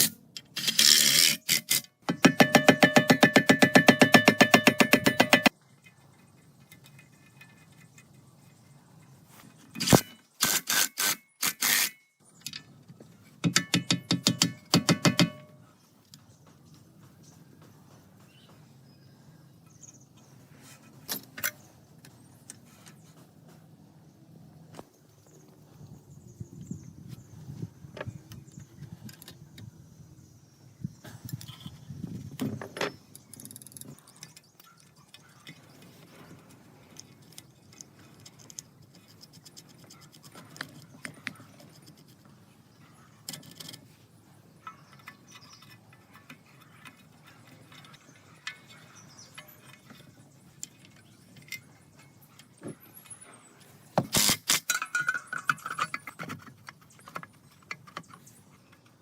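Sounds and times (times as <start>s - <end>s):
metal parts and tools clicking: 0.0s - 16.2s, 19.6s - 23.1s, 31.2s - 59.0s.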